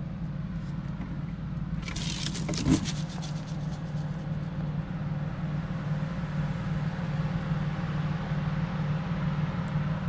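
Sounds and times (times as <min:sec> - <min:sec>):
pickup engine droning: 0:00.0 - 0:10.0.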